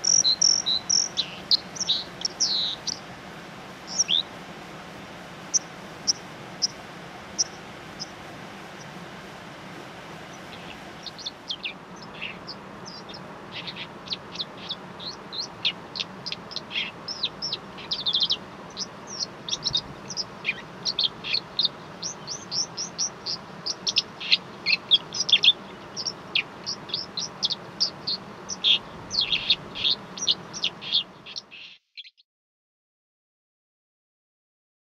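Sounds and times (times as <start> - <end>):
background hiss: 0.0 - 31.7
songbirds chirping: 0.0 - 32.2.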